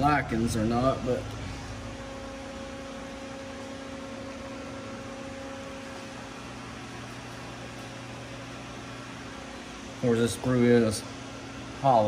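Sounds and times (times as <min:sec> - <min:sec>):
lower hum: 0:00.0 - 0:12.0
machine hum and hiss: 0:00.0 - 0:12.0.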